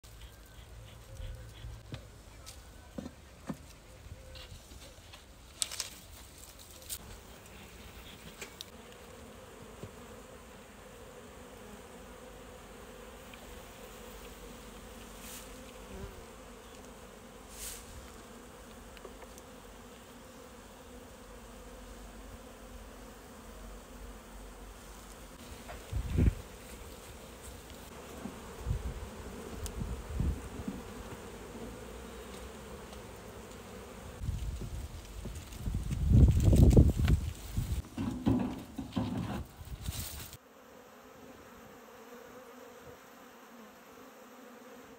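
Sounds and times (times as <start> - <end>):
honeybees humming: 0.0 - 5.4, 6.7 - 39.6, 40.2 - 44.9.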